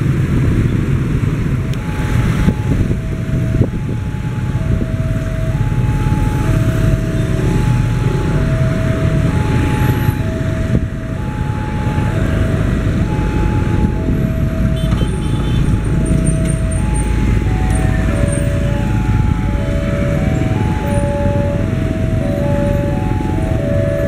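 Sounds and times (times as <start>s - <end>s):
low rumble of heavy vehicles: 0.0s - 24.0s
level crossing alarm two-tone warning: 1.6s - 24.0s.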